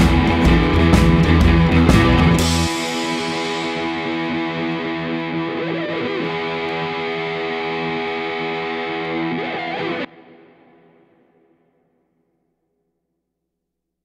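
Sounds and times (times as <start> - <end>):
distorted electric guitar chord: 0.0 - 11.8.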